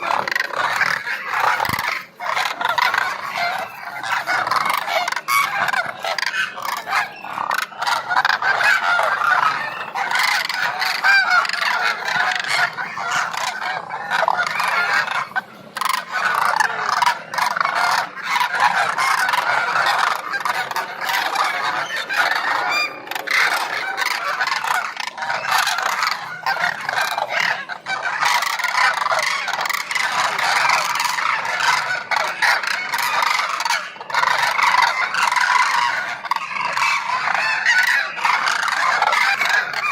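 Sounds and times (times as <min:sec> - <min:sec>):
flock of birds calling: 0:00.0 - 0:39.9.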